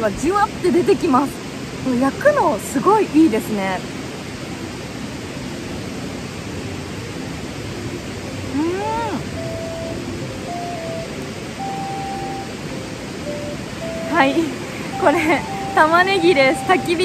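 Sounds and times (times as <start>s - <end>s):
river flowing over rocks: 0.0s - 17.0s
soft background music: 0.0s - 17.0s.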